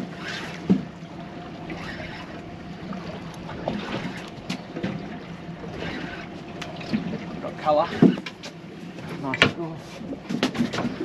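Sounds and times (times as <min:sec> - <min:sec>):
low steady hum: 0:00.0 - 0:11.0
water sloshing against boat hull: 0:00.0 - 0:11.0.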